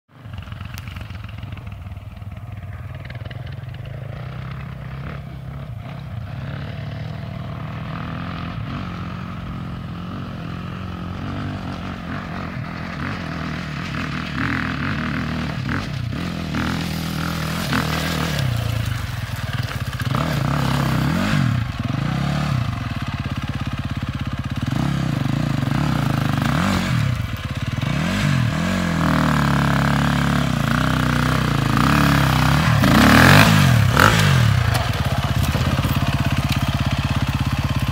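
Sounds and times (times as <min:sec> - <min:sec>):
dirt bike engine revving: 0:02.6 - 0:37.9.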